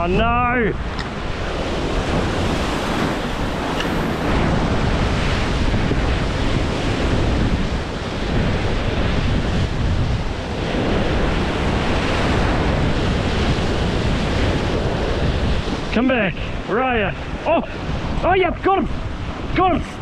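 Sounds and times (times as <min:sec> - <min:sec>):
wind rumbling on microphone: 0:00.0 - 0:20.0
waves breaking on rocks: 0:00.8 - 0:20.0.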